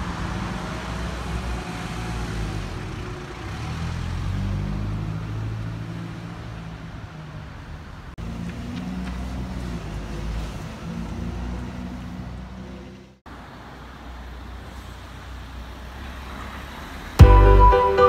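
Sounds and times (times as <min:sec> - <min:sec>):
bus engine approaching: 0:00.0 - 0:18.0
road traffic hum: 0:00.0 - 0:18.0.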